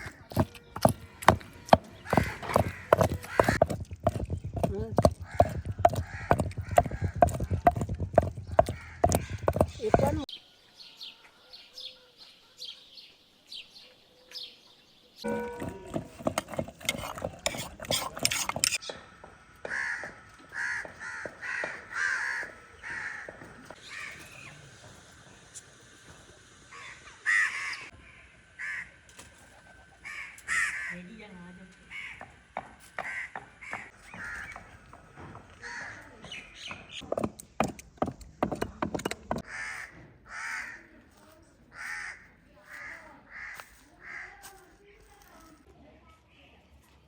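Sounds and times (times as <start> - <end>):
birds calling: 0.0 - 25.0, 26.7 - 31.2, 31.8 - 40.8.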